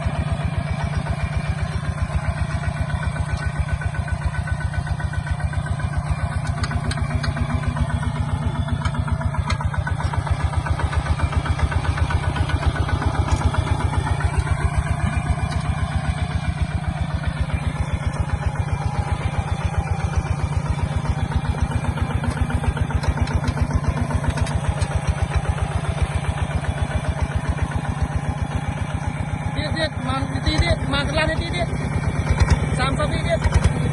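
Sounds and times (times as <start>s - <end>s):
diesel engine chugging: 0.0s - 33.9s.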